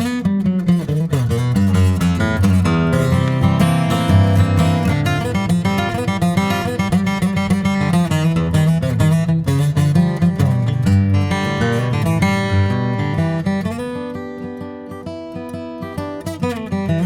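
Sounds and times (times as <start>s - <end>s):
acoustic guitar flatpicking: 0.0s - 17.0s.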